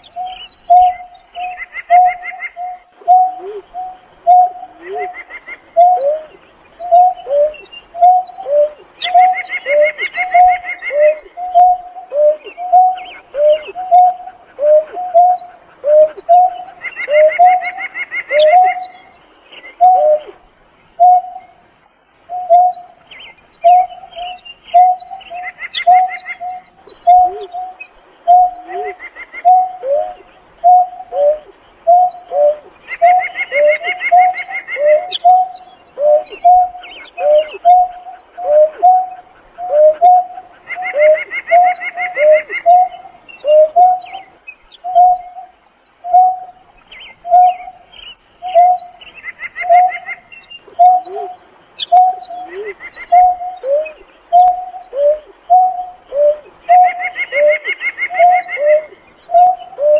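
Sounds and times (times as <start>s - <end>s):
bird low hoots: 0.0s - 21.6s, 23.6s - 59.9s.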